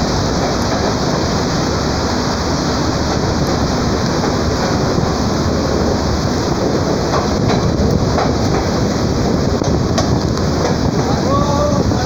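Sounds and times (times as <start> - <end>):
freight train passing: 0.0 - 12.0
heavy rain: 0.0 - 12.0
passing train rushing: 0.0 - 12.0.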